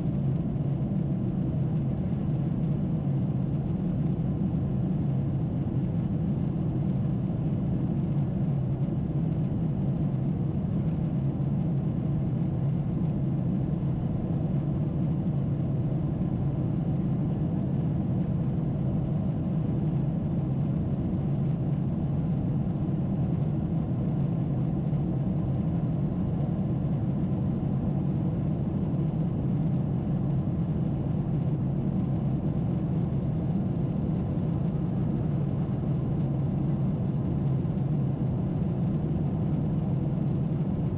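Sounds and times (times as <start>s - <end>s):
airplane cabin low rumble: 0.0s - 40.9s.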